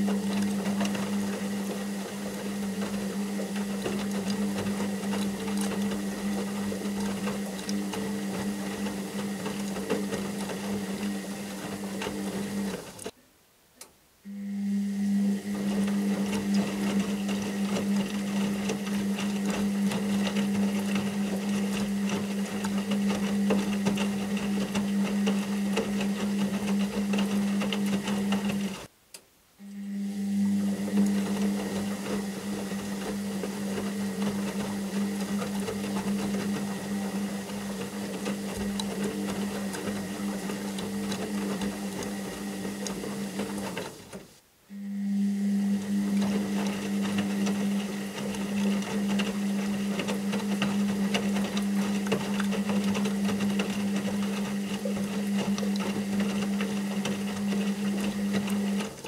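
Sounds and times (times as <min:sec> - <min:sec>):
washing machine running: 0:00.0 - 0:13.2, 0:14.3 - 0:28.9, 0:29.6 - 0:59.0.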